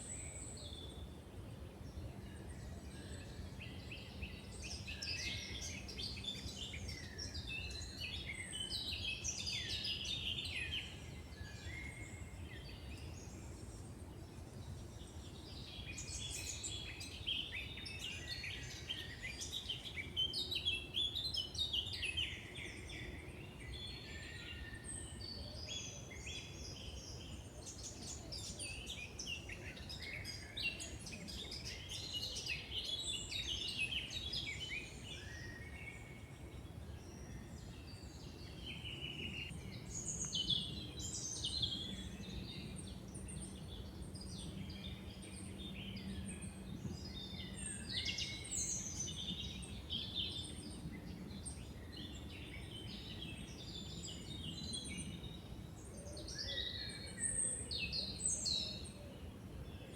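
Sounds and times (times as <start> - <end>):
birds singing and calling: 1.9 - 59.9.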